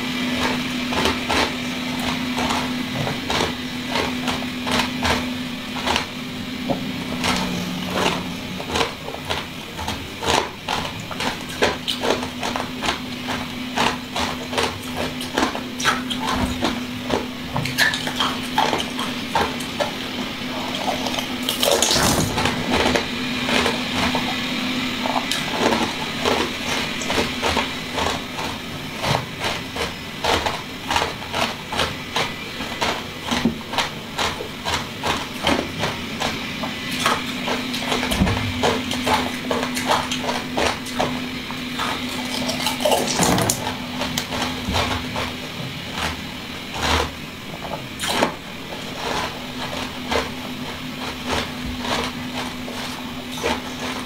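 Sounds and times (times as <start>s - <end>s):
wet chewing and squishing: 0.1s - 54.0s.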